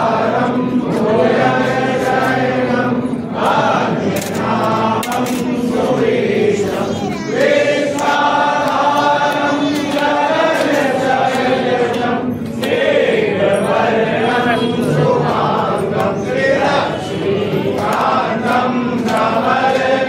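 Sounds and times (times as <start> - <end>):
group singing a hymn: 0.0 - 20.0.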